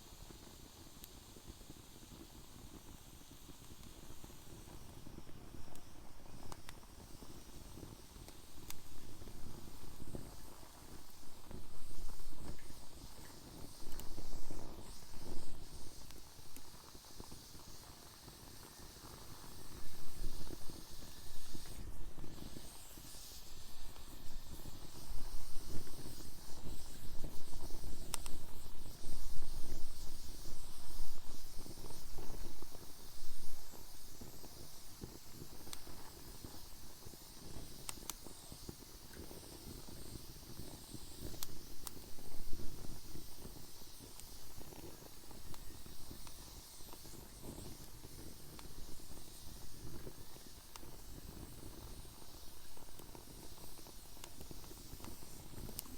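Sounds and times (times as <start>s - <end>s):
fire crackling pops: 0.0s - 55.9s
wood fire hissing: 0.0s - 55.9s.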